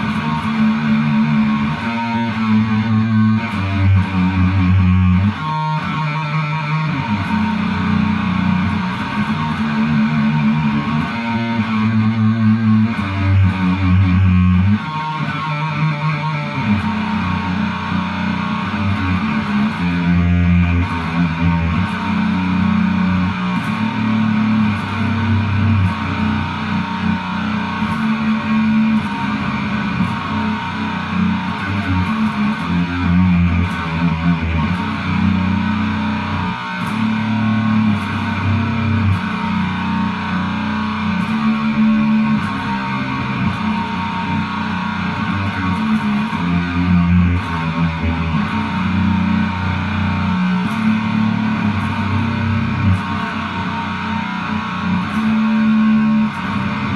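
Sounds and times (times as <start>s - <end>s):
guitar music with bass line: 0.0s - 56.9s.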